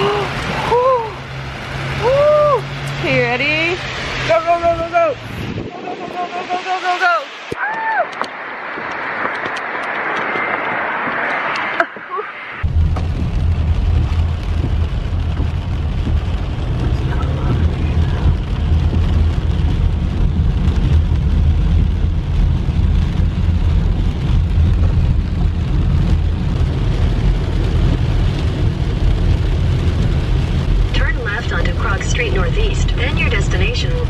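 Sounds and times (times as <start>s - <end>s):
rain hitting windshield: 0.0s - 8.0s, 12.6s - 34.0s
car cabin road rumble: 0.0s - 34.0s.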